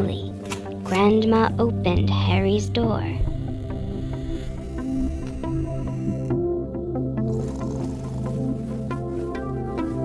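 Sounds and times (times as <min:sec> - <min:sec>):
soft calm instrumental music: 0:00.0 - 0:10.0.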